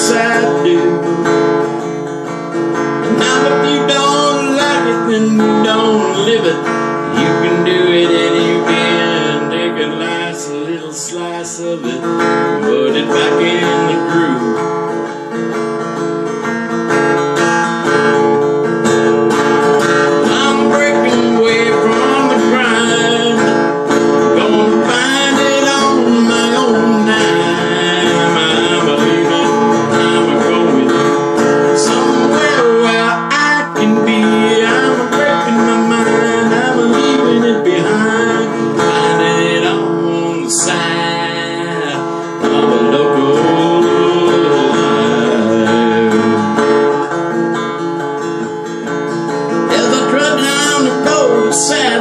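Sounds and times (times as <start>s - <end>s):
acoustic guitar strumming blues: 0.0s - 52.0s.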